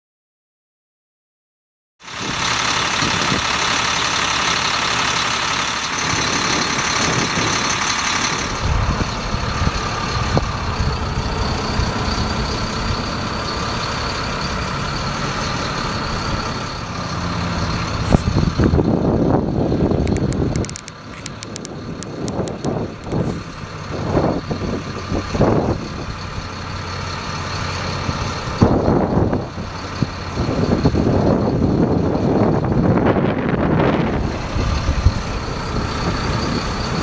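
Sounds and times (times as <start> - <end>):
hydraulic whine: 2.0 - 37.0
truck engine running: 2.0 - 37.0.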